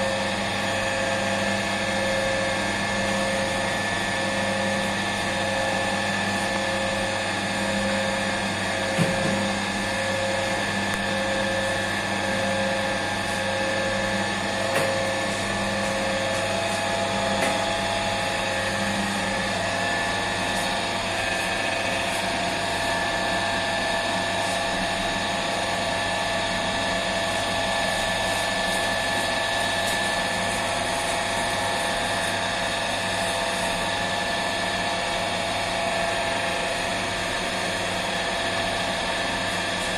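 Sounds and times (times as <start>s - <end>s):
dough mixer running: 0.0s - 39.9s.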